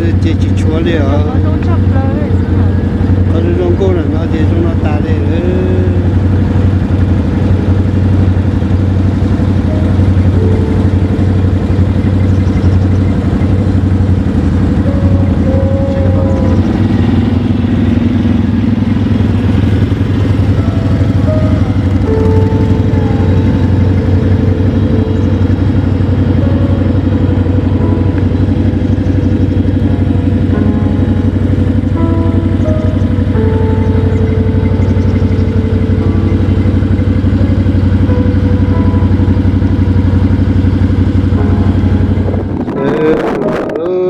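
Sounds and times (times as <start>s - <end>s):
vehicle engine droning: 0.0s - 44.0s.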